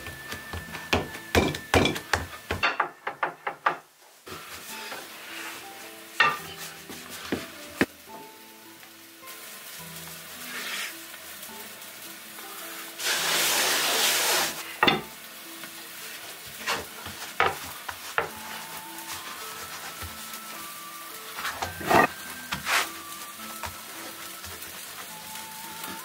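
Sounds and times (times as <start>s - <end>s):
soft background music: 0.0s - 2.8s, 4.2s - 26.0s
hot pan sizzling: 0.0s - 26.0s.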